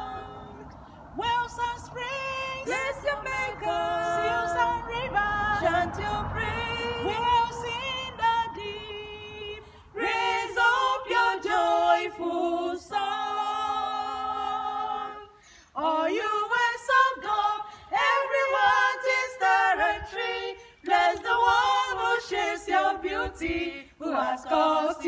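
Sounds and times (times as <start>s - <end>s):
women singing a hymn: 0.0s - 25.0s.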